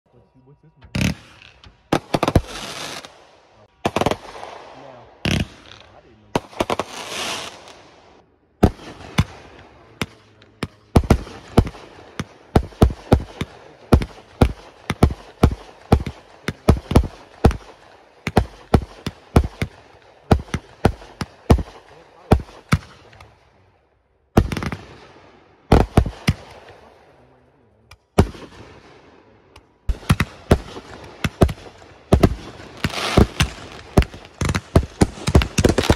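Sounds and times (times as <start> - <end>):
fireworks bangs: 0.8 - 23.4, 24.3 - 35.9
fireworks crackling: 0.9 - 23.4, 29.6 - 35.9.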